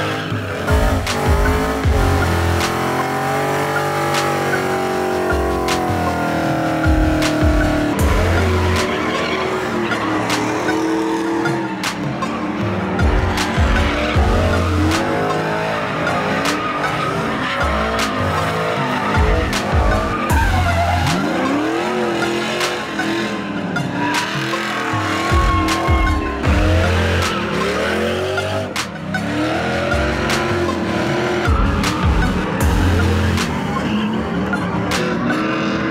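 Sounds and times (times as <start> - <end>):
engines revving: 0.0 - 35.9
music with heavy bass and drums: 0.0 - 35.9
tires squealing: 0.0 - 35.9.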